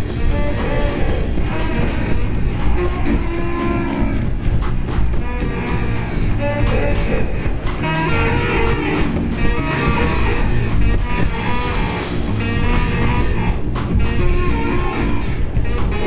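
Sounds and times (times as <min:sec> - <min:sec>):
experimental jazz band playing: 0:00.0 - 0:16.0.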